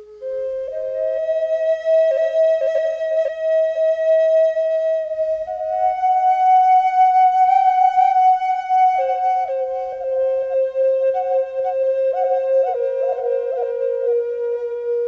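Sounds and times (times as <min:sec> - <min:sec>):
flute-like wind instrument: 0:00.0 - 0:15.0.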